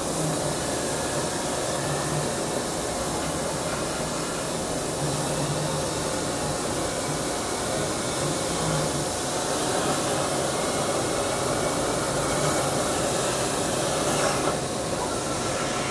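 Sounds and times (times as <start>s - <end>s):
plasma cutter torch hissing: 0.0s - 15.9s.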